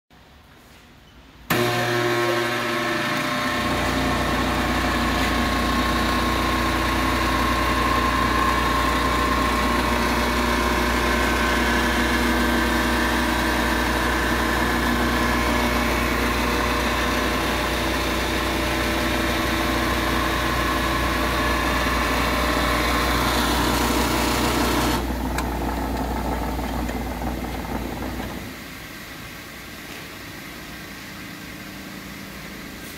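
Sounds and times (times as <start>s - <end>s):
grinder motor hum: 1.5s - 28.6s
grinder whine: 1.5s - 28.6s.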